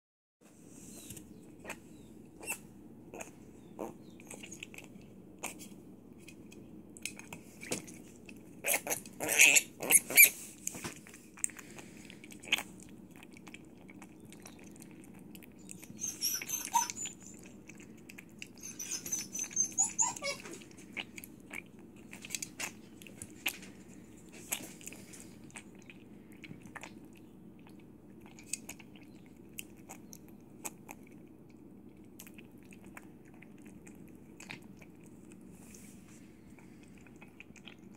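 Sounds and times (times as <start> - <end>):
piglet slurping milk: 0.7 - 37.9.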